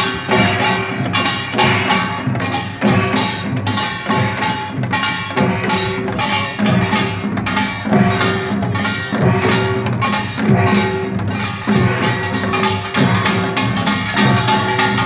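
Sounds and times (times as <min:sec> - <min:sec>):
drum beats: 0:00.0 - 0:15.0
ringing gong tones: 0:00.0 - 0:15.0
small gong strikes: 0:00.0 - 0:15.0.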